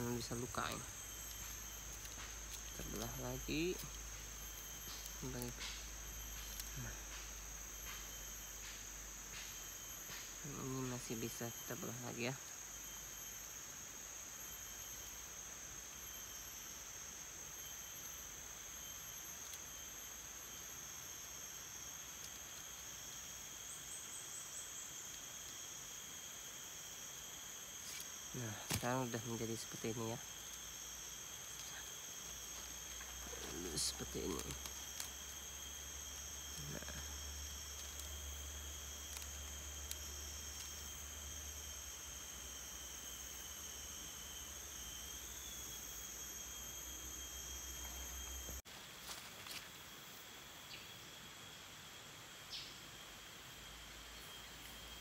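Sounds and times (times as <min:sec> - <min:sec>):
chorus of forest insects: 0:00.0 - 0:55.0.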